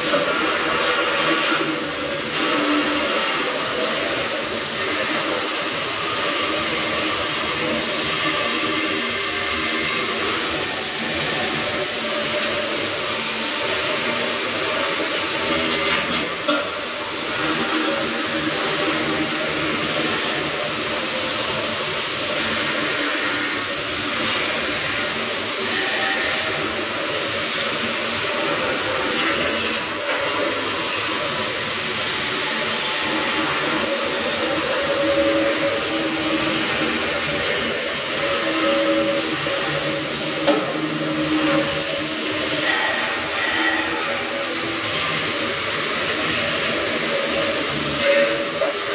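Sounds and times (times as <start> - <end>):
arc welding hiss: 0.0 - 48.9.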